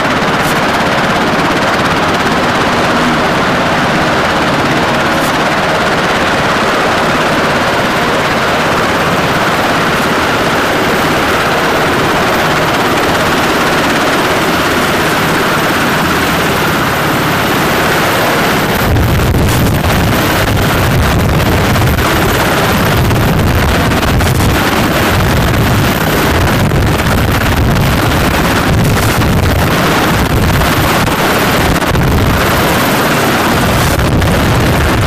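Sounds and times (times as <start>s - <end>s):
helicopter turbine and rotor: 0.0s - 35.0s.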